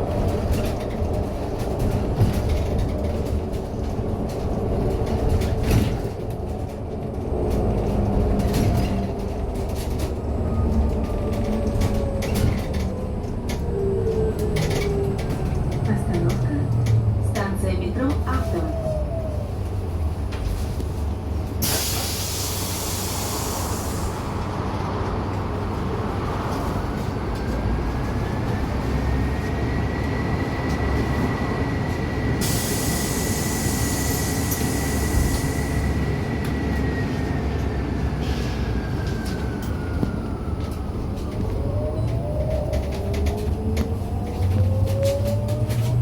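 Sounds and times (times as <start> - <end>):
low rumble of bus ride: 0.0 - 46.0.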